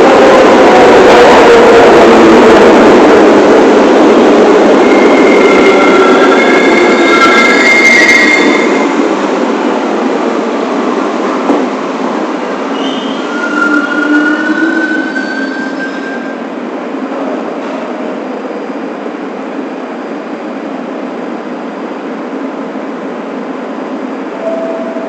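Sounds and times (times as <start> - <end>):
subway train rumbling on track: 0.0 - 25.0.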